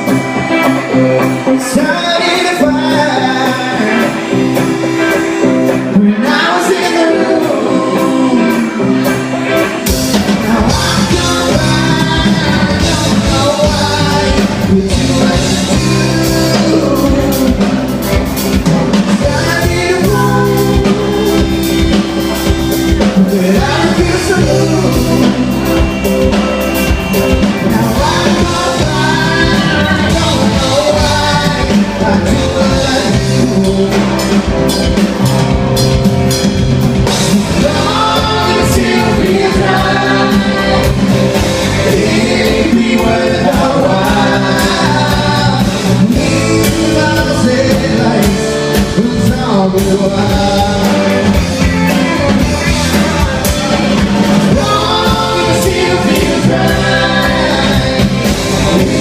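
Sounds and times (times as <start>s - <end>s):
person singing: 0.0s - 35.4s, 37.0s - 59.0s
drums: 0.0s - 59.0s
rock band playing live: 0.0s - 59.0s.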